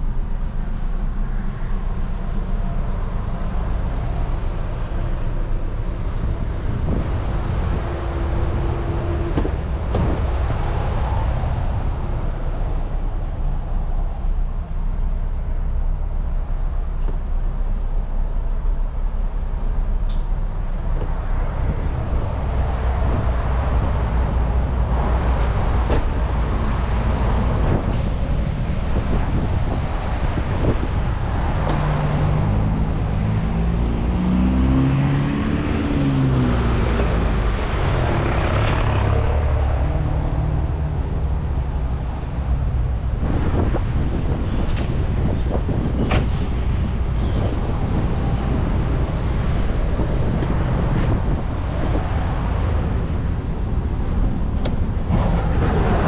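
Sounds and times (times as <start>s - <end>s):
diesel engine rumble: 0.0s - 56.0s
road noise: 0.0s - 56.0s.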